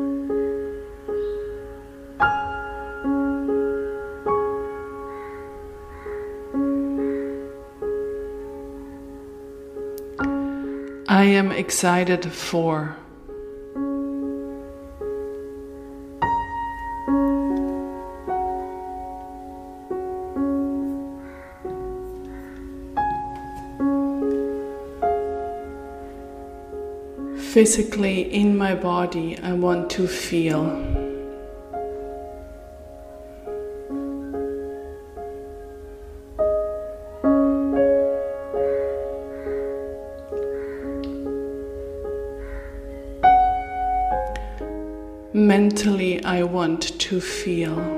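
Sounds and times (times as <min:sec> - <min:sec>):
slow solo piano: 0:00.0 - 0:11.1, 0:13.1 - 0:28.0, 0:29.8 - 0:45.8.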